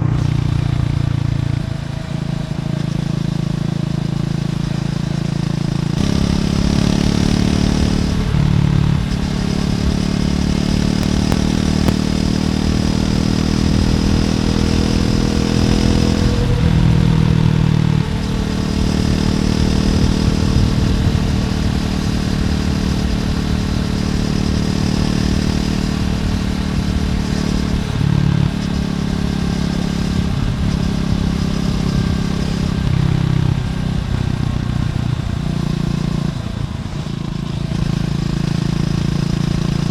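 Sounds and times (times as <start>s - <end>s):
motorcycle engine pulling: 0.0s - 39.9s.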